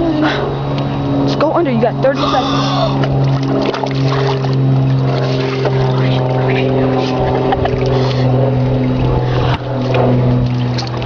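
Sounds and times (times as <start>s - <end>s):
steady motor hum: 0.0s - 11.0s
water splashes: 1.2s - 11.0s.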